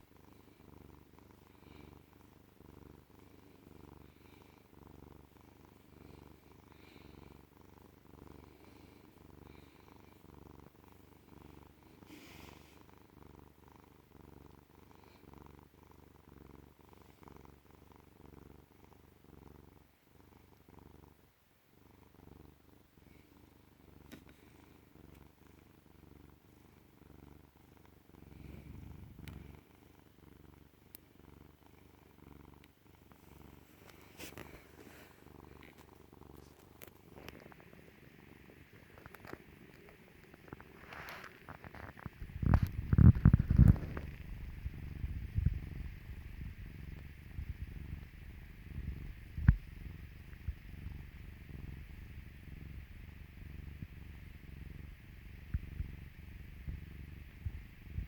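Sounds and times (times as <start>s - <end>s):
cat purring: 0.0s - 58.0s.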